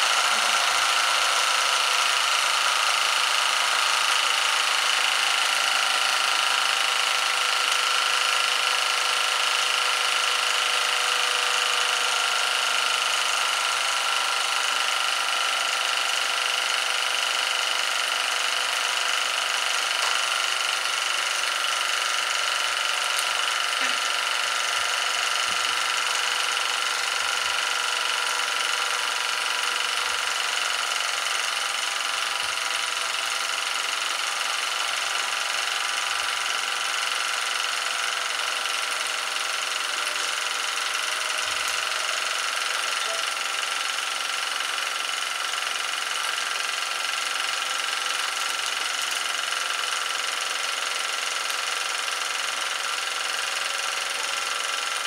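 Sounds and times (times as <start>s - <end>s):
toy steam engine whirring: 0.0s - 55.0s.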